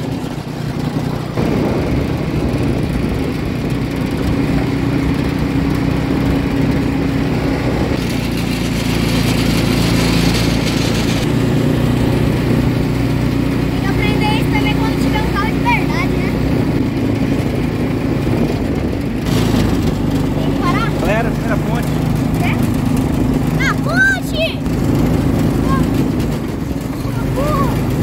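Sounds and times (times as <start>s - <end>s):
small petrol engine running: 0.0s - 28.0s.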